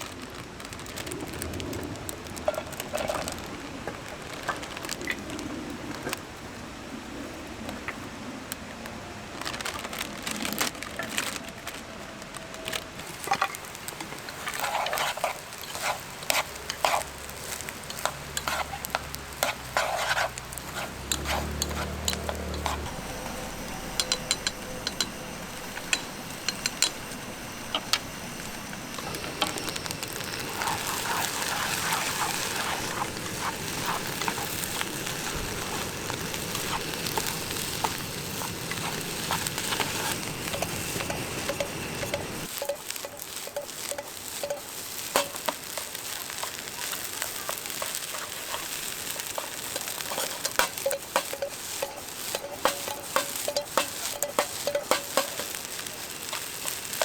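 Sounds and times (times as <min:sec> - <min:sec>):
food sizzling in a frying pan: 0:00.0 - 0:06.2, 0:10.4 - 0:57.0.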